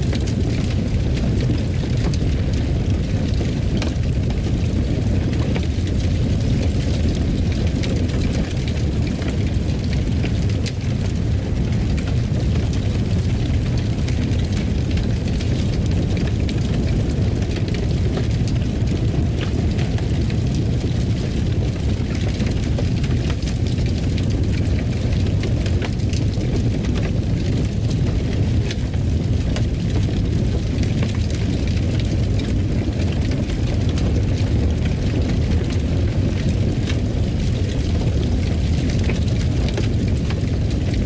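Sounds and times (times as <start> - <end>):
fire crackling: 0.0 - 41.0
fire rumbling: 0.0 - 41.0.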